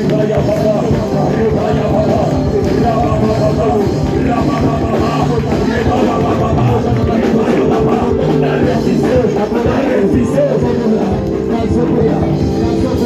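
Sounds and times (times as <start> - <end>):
church worship band music: 0.0 - 13.0.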